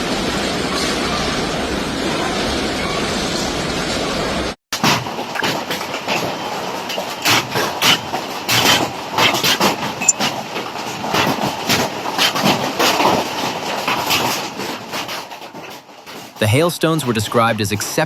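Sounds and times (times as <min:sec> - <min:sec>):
rushing storm noise: 0:00.0 - 0:18.0.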